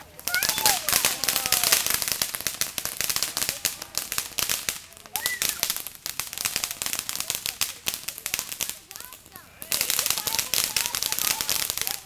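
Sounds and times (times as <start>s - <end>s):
fountain firework crackling: 0.0s - 12.0s.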